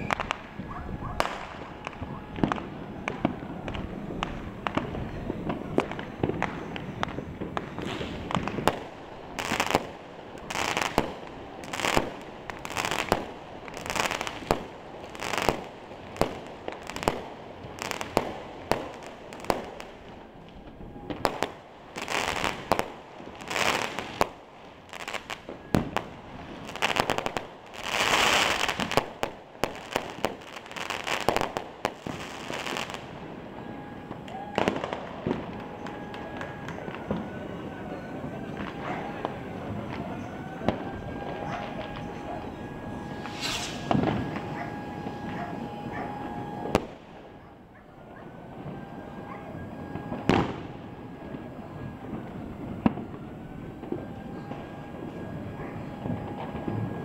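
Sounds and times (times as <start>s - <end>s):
firecrackers banging: 0.0s - 57.0s.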